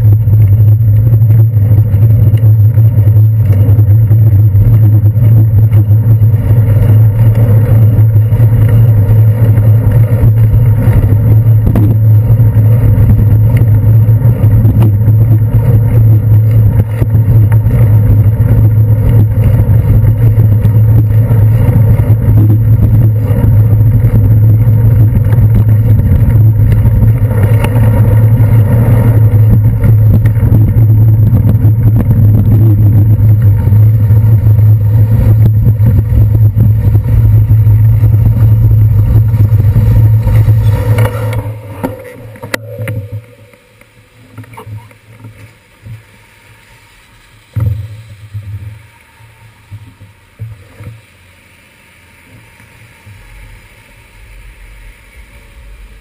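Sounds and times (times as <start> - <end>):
bicycle rumble over wet pavement: 0.0 - 56.0
traffic noise: 0.0 - 56.0.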